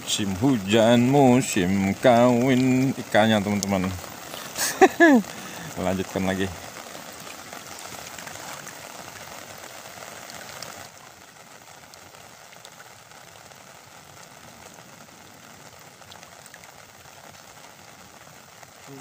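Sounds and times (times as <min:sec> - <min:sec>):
heavy rain on water: 0:00.0 - 0:19.0.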